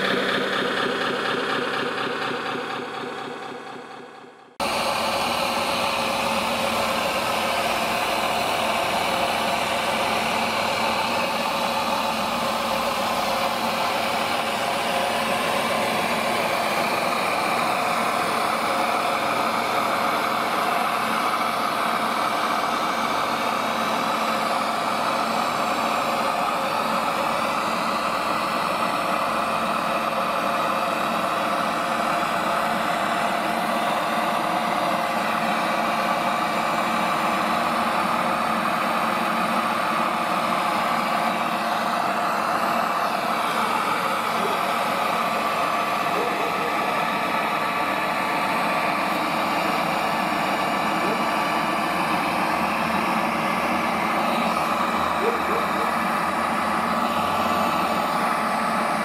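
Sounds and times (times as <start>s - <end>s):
water pump running: 0.0s - 59.0s.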